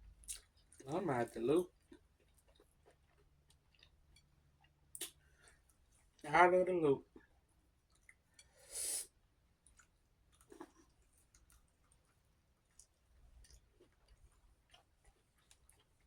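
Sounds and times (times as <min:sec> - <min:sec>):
chewing and mouth clicks: 0:00.1 - 0:00.9, 0:01.7 - 0:06.2, 0:07.2 - 0:08.4, 0:09.6 - 0:16.0.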